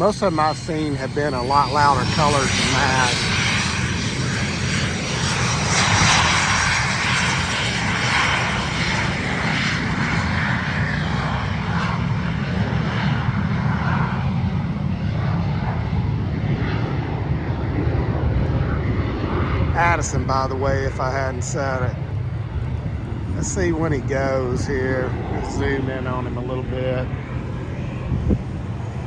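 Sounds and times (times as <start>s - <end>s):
jet engine running: 0.0s - 29.0s.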